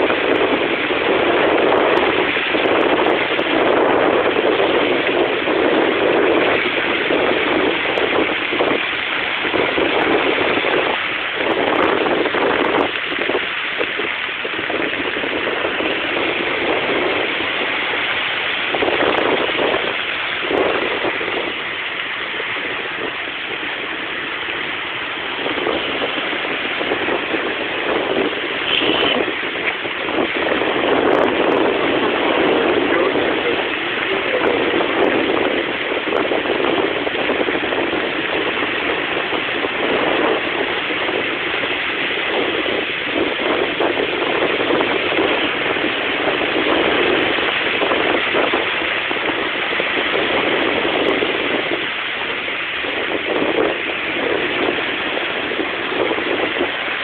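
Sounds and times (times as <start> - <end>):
waves breaking in stormy surf: 0.0 - 57.0.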